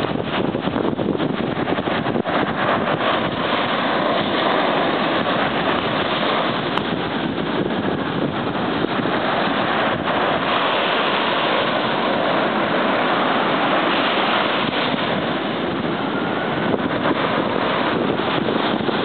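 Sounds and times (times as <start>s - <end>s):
surf rushing: 0.0s - 19.0s
wind buffeting microphone: 0.0s - 19.0s.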